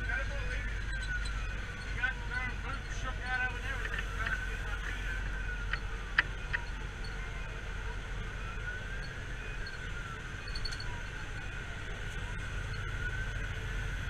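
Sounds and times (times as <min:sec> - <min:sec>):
fire engine siren wailing: 0:00.0 - 0:14.0
road noise: 0:00.0 - 0:14.0
truck engine rumble: 0:00.0 - 0:14.0.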